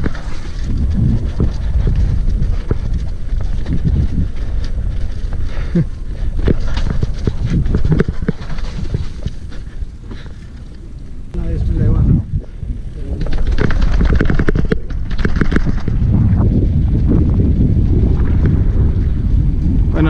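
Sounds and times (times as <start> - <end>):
mountain bike rattling and knocking: 0.0 - 10.4, 13.0 - 20.0
tyres rumbling on dirt trail: 0.0 - 20.0.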